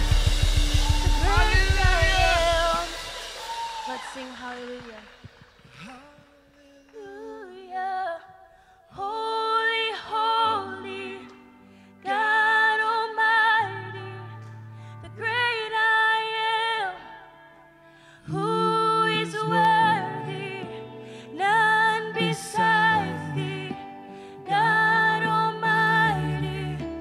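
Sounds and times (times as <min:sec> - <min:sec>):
woman singing with vibrato: 0:00.9 - 0:05.2, 0:05.8 - 0:11.4, 0:12.0 - 0:17.6, 0:18.2 - 0:27.0.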